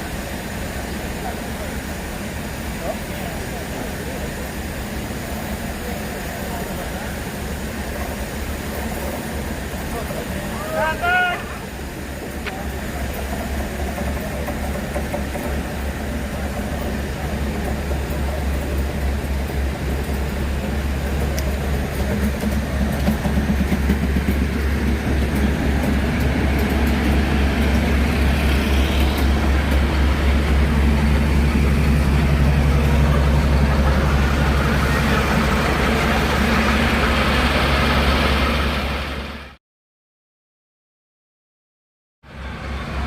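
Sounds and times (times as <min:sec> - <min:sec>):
diesel locomotive engine rumbling: 0:00.0 - 0:39.6, 0:42.2 - 0:43.0.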